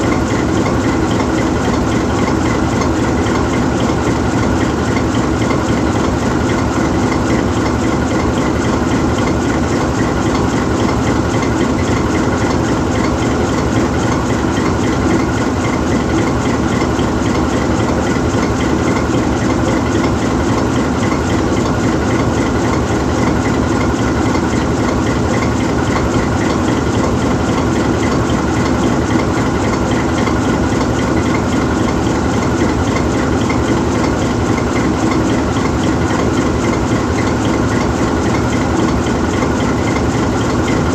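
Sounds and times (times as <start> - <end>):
diesel locomotive idling: 0.0 - 40.9.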